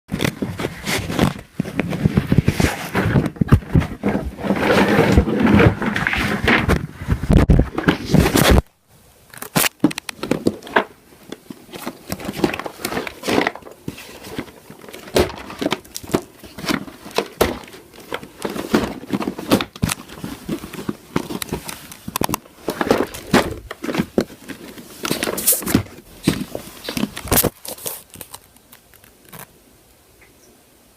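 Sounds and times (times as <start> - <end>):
packaging crinkling and rustling: 0.1 - 8.7, 9.3 - 29.5.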